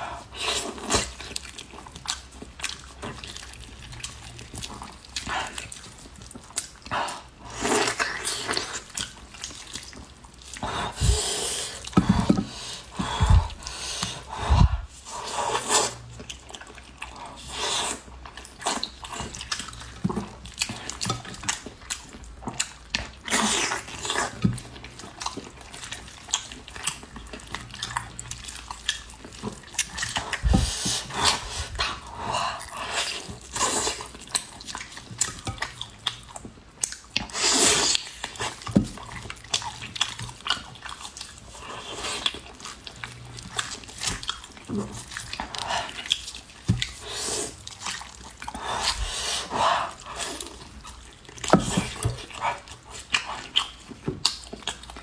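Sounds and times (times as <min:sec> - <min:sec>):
person chewing with mouth smacks: 0:00.2 - 0:55.0.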